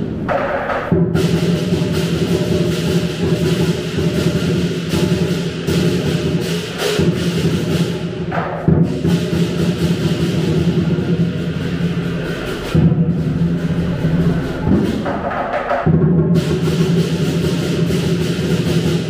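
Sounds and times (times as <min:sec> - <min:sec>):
big drum beating: 0:00.0 - 0:19.0
cymbals clashing: 0:00.0 - 0:19.0.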